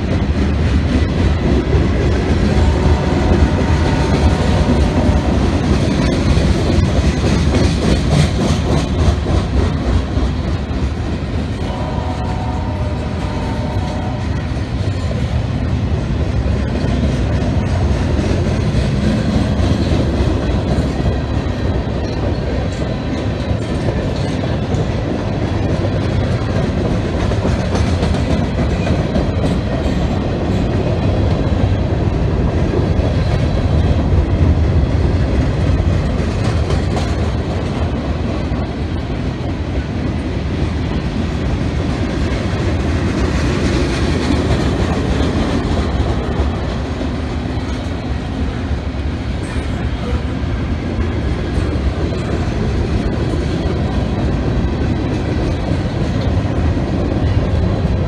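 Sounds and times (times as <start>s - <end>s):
wheels clickety-clack on joints: 0.0s - 11.6s, 14.4s - 48.2s, 49.3s - 58.0s
steel wheels rumbling on rail: 0.0s - 58.0s.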